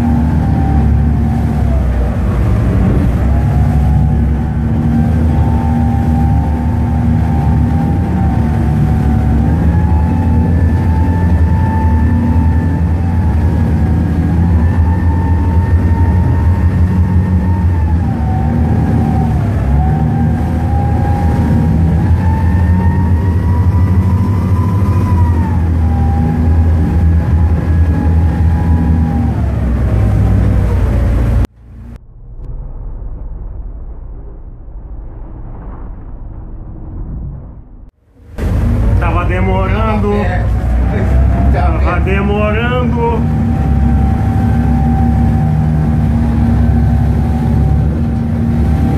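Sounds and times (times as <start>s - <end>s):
boat engines droning: 0.0s - 32.0s, 38.0s - 48.9s
high engine whine: 0.0s - 48.9s.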